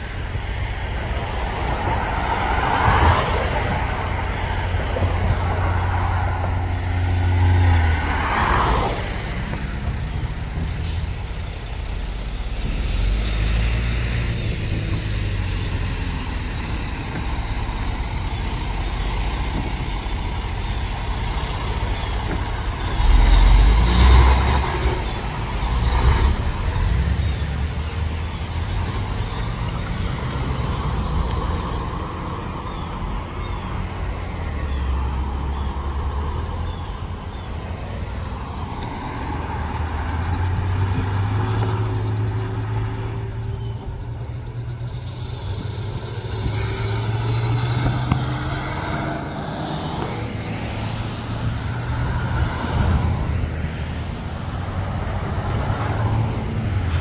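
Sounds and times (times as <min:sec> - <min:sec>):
cars and trucks driving past: 0:00.0 - 0:57.0
heavy vehicles rumbling past: 0:00.0 - 0:57.0.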